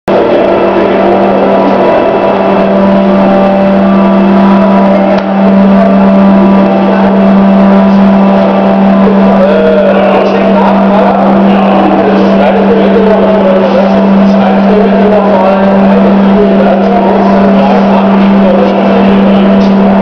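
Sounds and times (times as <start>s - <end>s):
electric machine hum: 0.1s - 20.0s.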